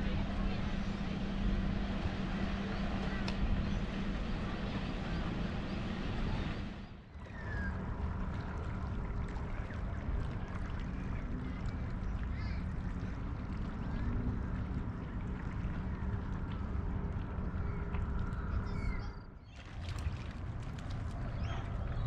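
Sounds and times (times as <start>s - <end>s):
low motor hum: 0.0s - 22.0s
noisy wash: 0.0s - 22.0s.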